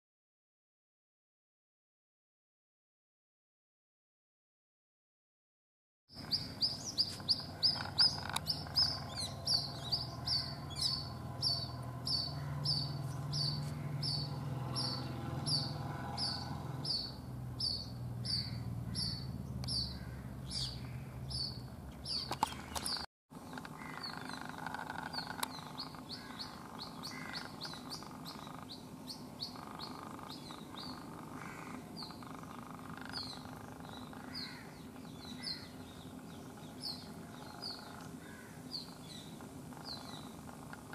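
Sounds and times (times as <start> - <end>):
bird chick peeping: 6.1 - 40.9.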